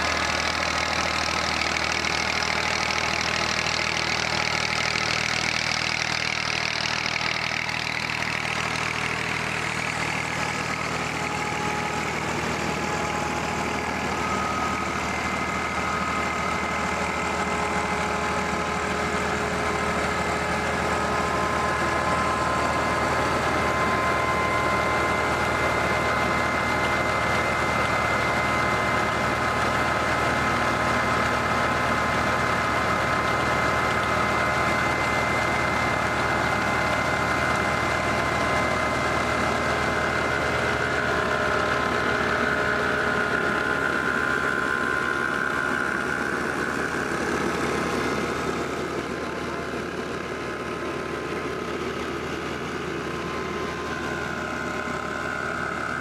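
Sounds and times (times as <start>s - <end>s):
flour mill high whine: 0.0s - 56.0s
tractor diesel engine running: 0.0s - 56.0s.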